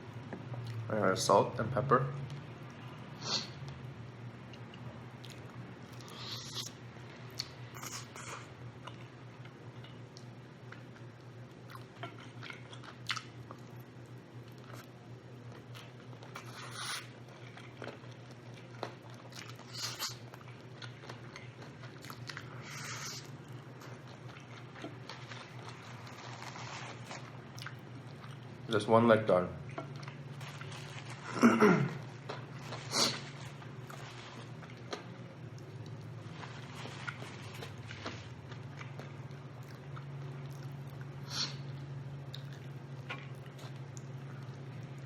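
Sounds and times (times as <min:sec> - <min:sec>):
steady low hum: 0:00.0 - 0:45.0
person chewing: 0:04.5 - 0:13.8, 0:14.4 - 0:28.6, 0:29.7 - 0:45.0.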